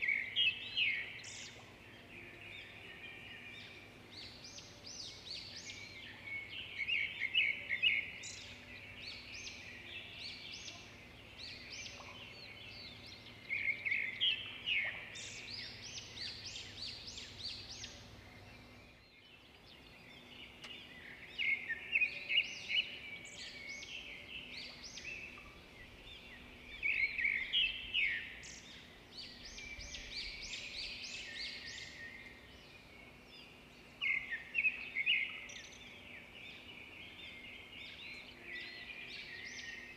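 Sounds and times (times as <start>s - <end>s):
birds chirping: 0.0s - 39.9s
faint steady hum: 0.0s - 39.9s.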